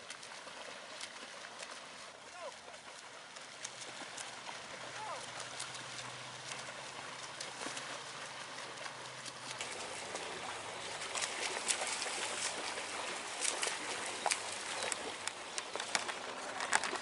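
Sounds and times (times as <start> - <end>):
short sharp splashes: 0.0 - 17.0
water splashing and trickling: 0.0 - 17.0.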